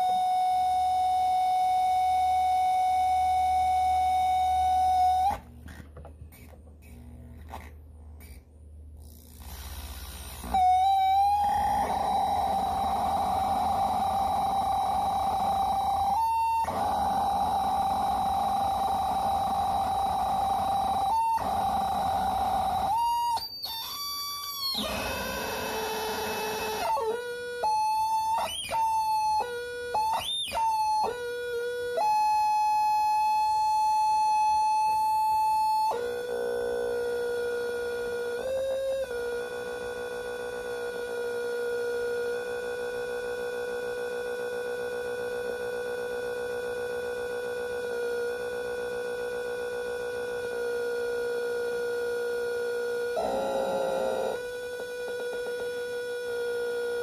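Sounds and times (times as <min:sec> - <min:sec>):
electronic feedback tone: 0:00.0 - 0:57.0.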